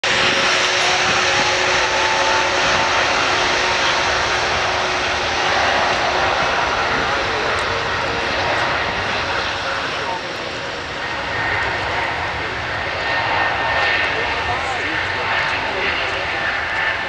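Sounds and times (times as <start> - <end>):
jet engines at takeoff: 0.0 - 17.0.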